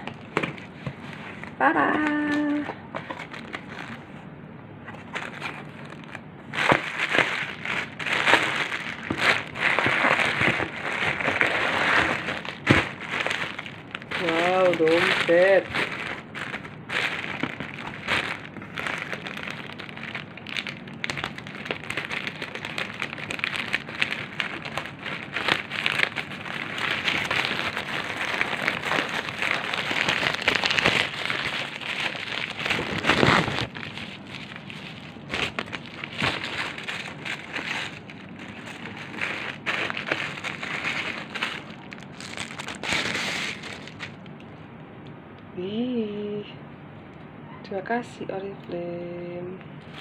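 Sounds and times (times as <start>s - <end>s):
plastic packaging crinkling: 0.0s - 4.2s, 4.9s - 44.4s.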